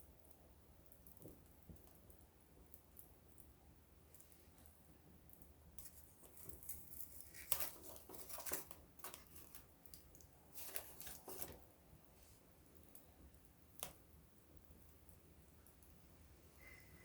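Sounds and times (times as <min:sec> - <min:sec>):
fire snaps and pops: 0:00.0 - 0:16.1
wood fire crackling: 0:00.0 - 0:17.0.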